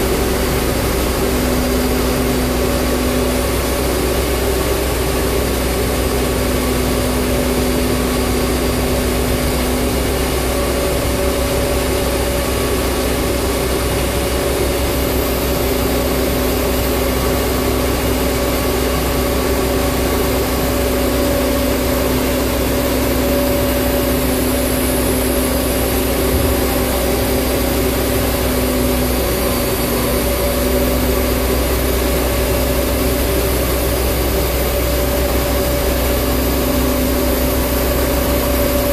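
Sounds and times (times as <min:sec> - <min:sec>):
crane diesel engine droning: 0:00.0 - 0:38.9.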